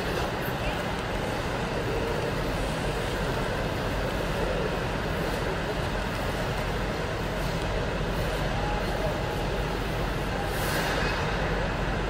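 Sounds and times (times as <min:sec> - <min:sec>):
ice rink ambience: 0:00.0 - 0:12.0.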